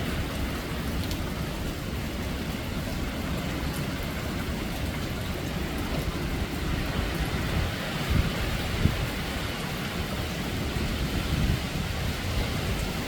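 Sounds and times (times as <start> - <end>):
rain: 0.0 - 13.0
strong wind: 0.0 - 13.0
wind buffeting microphone: 0.0 - 13.0.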